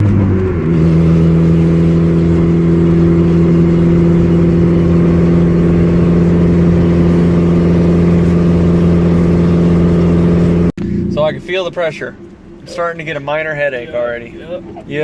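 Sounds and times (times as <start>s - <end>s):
loud car engine drone: 0.0s - 15.0s.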